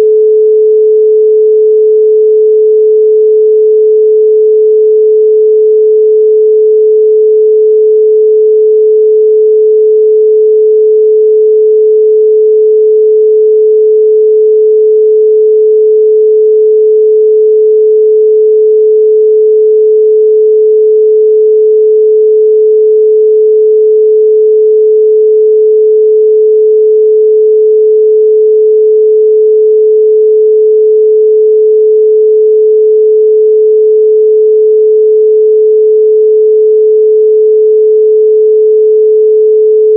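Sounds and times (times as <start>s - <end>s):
pure sine tone: 0.0s - 39.9s.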